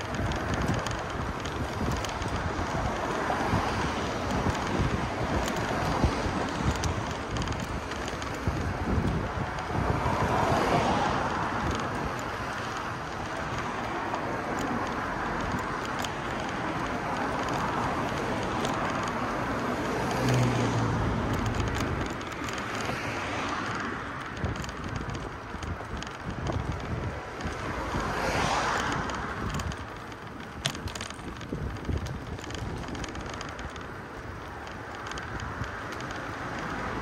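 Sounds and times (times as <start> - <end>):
vehicles passing: 0.0 - 37.0
wind on microphone: 0.0 - 37.0.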